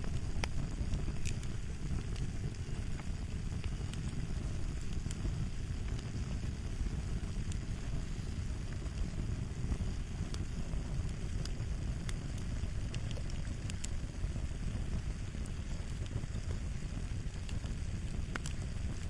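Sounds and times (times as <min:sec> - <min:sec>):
fire crackling: 0:00.0 - 0:19.0.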